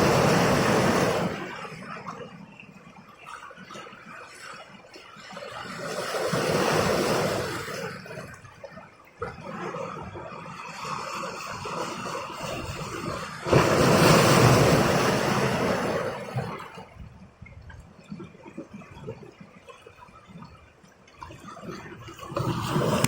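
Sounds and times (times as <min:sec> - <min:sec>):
rush of water: 0:00.0 - 0:23.0
water splashing: 0:00.0 - 0:23.0.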